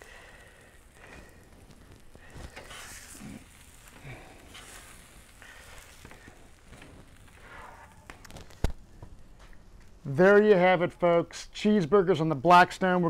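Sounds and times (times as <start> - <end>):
faint sizzling on griddle: 0.0 - 12.9.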